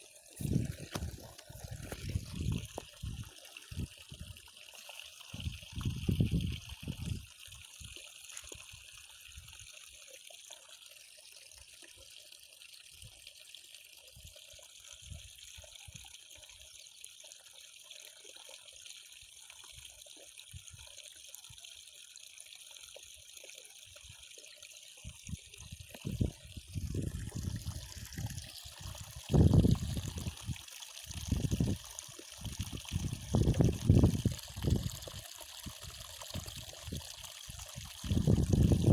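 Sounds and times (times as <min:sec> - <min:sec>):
trickle of running water: 0:00.0 - 0:38.9.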